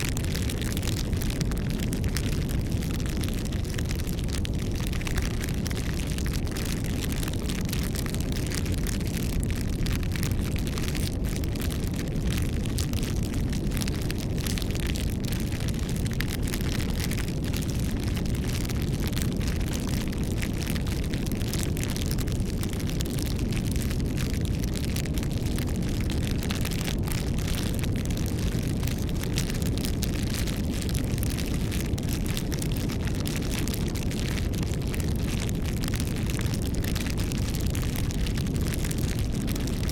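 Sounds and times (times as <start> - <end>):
campfire crackling and popping: 0.0 - 39.9
low rush of flame: 0.0 - 39.9.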